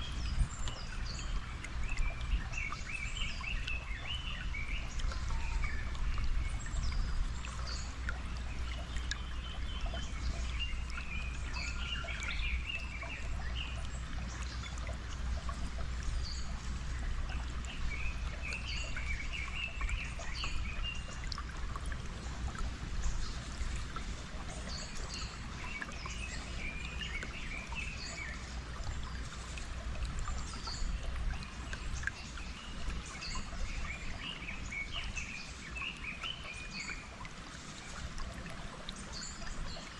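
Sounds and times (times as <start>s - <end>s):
running water: 0.0s - 39.9s
songbirds chirping and trilling: 0.0s - 39.9s.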